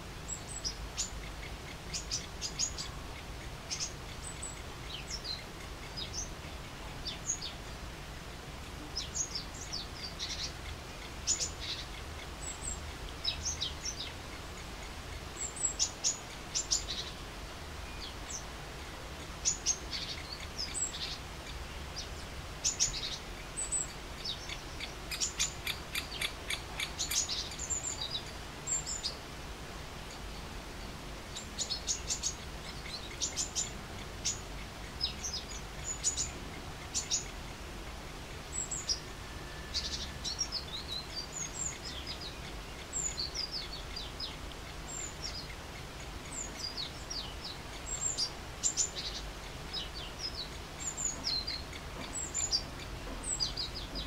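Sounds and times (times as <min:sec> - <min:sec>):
birds chirping: 0:00.0 - 0:07.9, 0:08.7 - 0:54.0.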